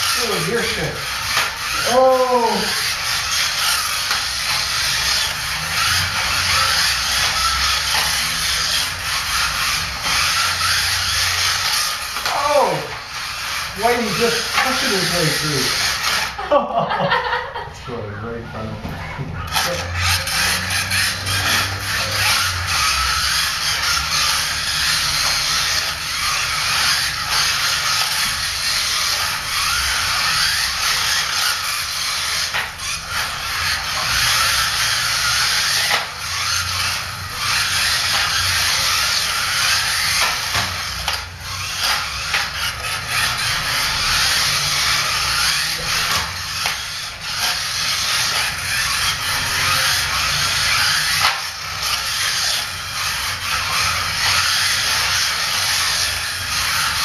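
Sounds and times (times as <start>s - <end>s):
toy car motors whirring: 0.0s - 57.0s.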